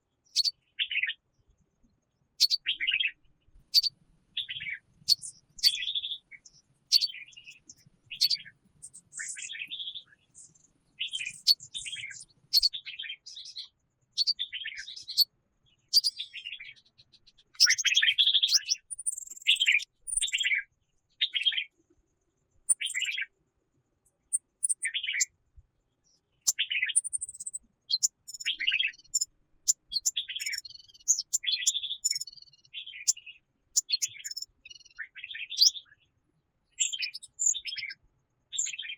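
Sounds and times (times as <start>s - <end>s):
songbirds chirping and trilling: 0.0s - 23.4s, 24.1s - 38.9s.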